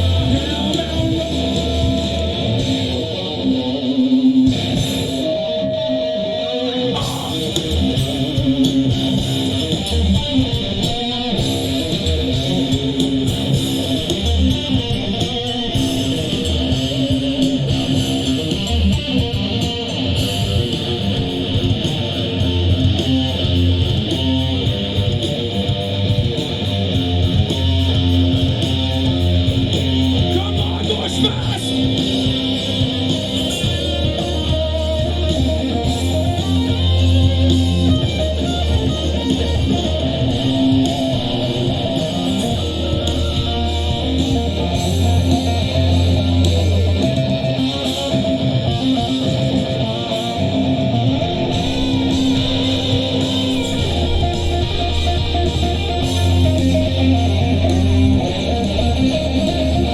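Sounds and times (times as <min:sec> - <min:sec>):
steady drum beat: 0:00.0 - 0:03.4, 0:04.5 - 0:05.4, 0:07.0 - 0:59.9
bass guitar: 0:00.0 - 0:59.9
electric guitar strumming: 0:00.0 - 0:59.9.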